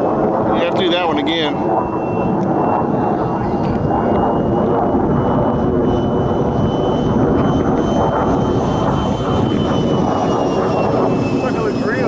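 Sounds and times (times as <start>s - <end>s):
model jet fan whining: 0.0s - 12.0s
steady rushing noise: 0.0s - 12.0s.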